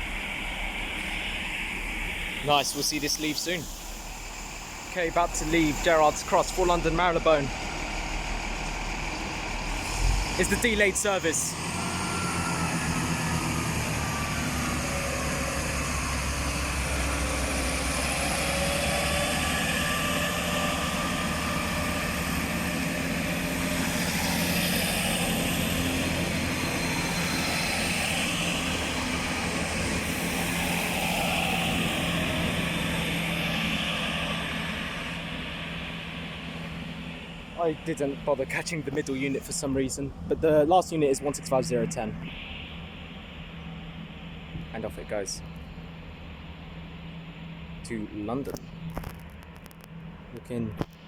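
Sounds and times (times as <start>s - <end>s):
diesel train engines droning: 0.0s - 51.0s.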